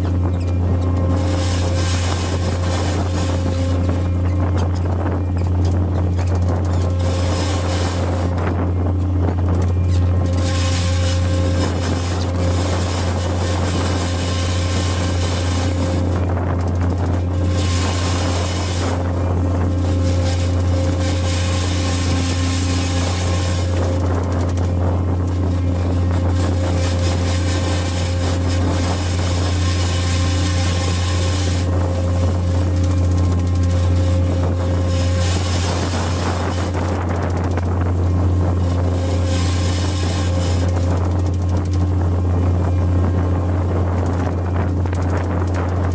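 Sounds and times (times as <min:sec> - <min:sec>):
boat engine droning: 0:00.0 - 0:45.9.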